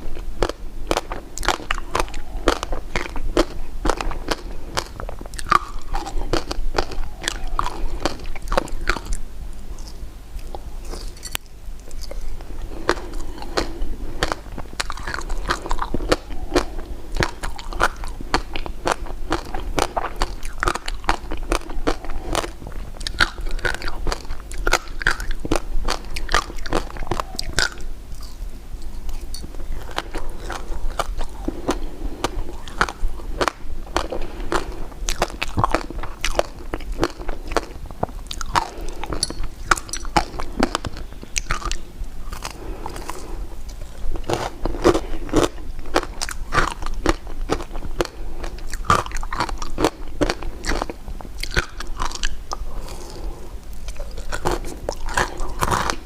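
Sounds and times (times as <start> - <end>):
candy crunching while chewing: 0.0 - 56.0.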